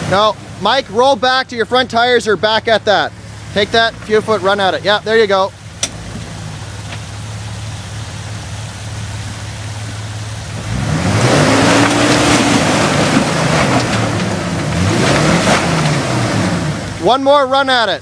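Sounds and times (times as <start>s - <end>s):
engine idling and revving: 0.0s - 18.0s
tires grinding over rock: 0.0s - 18.0s.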